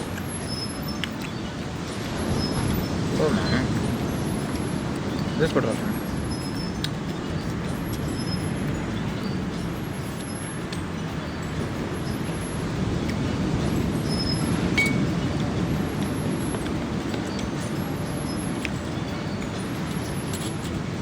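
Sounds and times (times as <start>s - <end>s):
faint high clinks: 0.0s - 21.0s.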